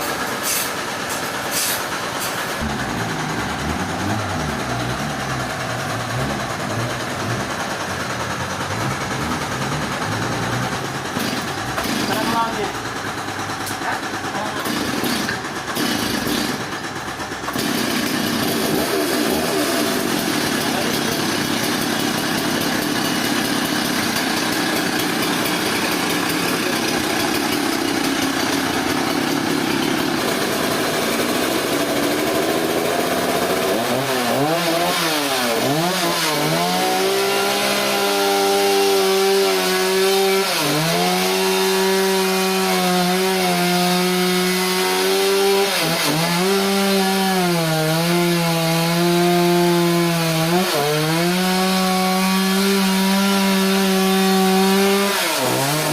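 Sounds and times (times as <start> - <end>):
power saw cutting log: 0.0 - 55.9.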